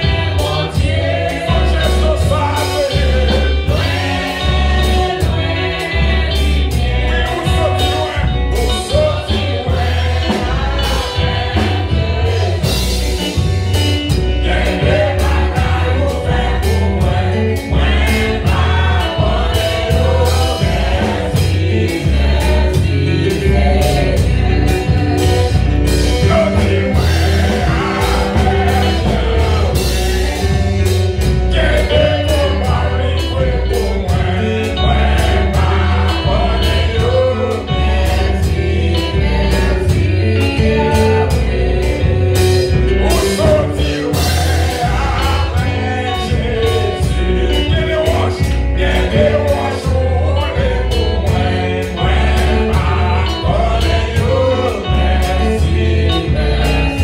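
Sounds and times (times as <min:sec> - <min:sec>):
band with strong bass: 0:00.0 - 0:57.0
choir singing gospel song: 0:00.0 - 0:57.0.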